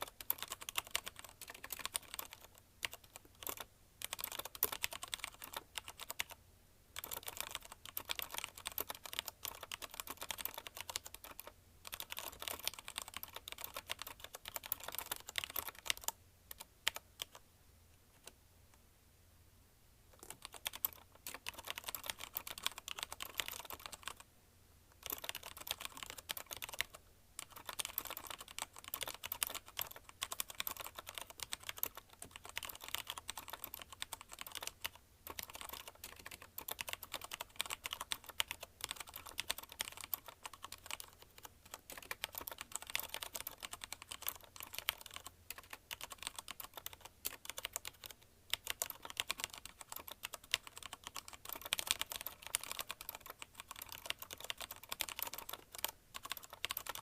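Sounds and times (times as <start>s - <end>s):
mechanical keyboard typing: 0.0s - 6.4s, 7.0s - 17.4s, 20.2s - 24.2s, 24.9s - 57.0s.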